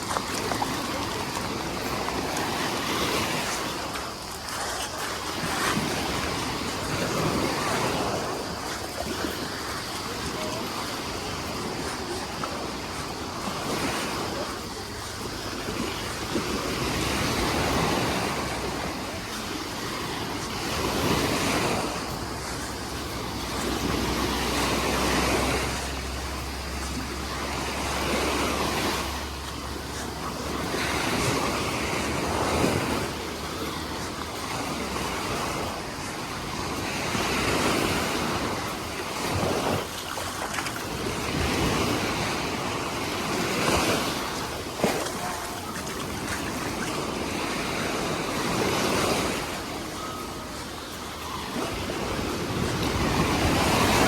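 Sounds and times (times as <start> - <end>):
small waves breaking on beach: 0.0 - 54.0
wind rumble on microphone: 0.0 - 54.0.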